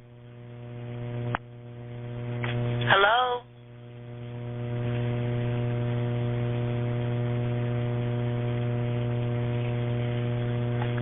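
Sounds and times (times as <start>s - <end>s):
electrical hum on phone line: 0.0s - 11.0s
static hiss: 0.0s - 11.0s.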